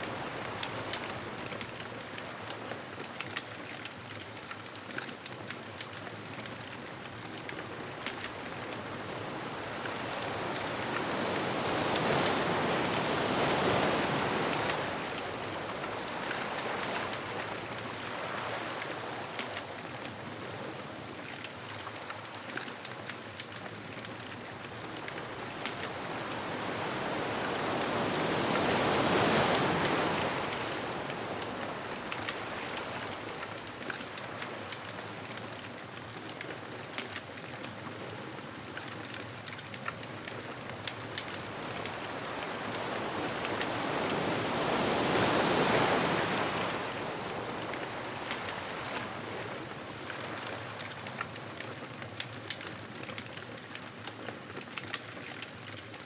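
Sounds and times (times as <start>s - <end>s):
ocean waves breaking on beach: 0.0s - 5.1s, 5.9s - 53.4s
wood bonfire crackling: 0.0s - 56.0s.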